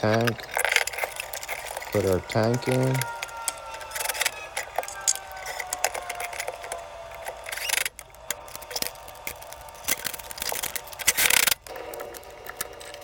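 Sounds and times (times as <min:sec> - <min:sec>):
metallic clinks and rattles: 0:00.0 - 0:13.0.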